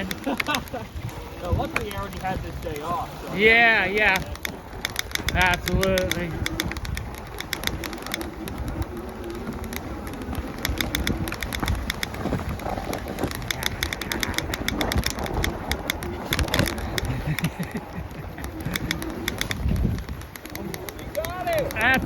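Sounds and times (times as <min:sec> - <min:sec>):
irregular rapid clicking: 0:00.0 - 0:22.0
steady low rumble: 0:04.2 - 0:22.0.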